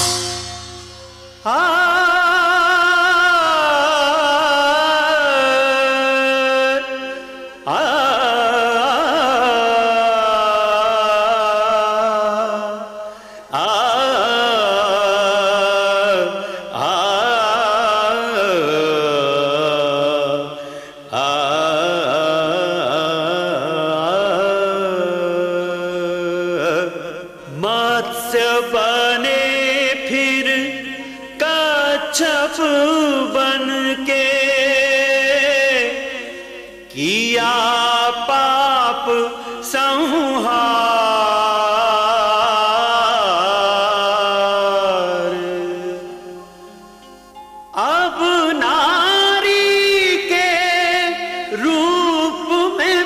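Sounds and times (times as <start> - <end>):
indian classical music: 0.0 - 53.0.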